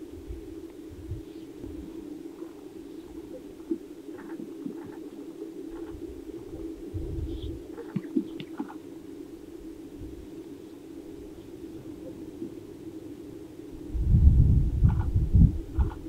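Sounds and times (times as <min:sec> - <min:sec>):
low chorus of grouse: 0:00.0 - 0:16.0
wind rumbling on microphone: 0:00.0 - 0:16.0.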